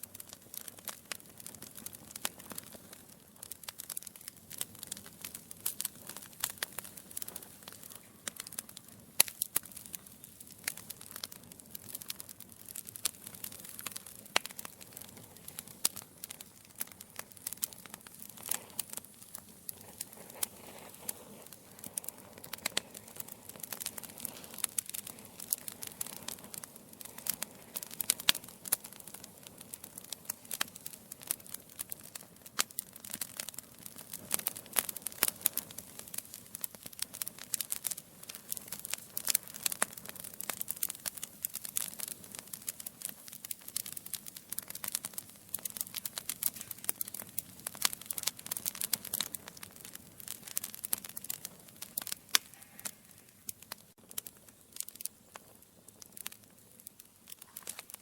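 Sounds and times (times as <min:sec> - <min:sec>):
flames hissing: 0:00.0 - 0:58.0
logs crackling and popping: 0:00.0 - 0:58.0.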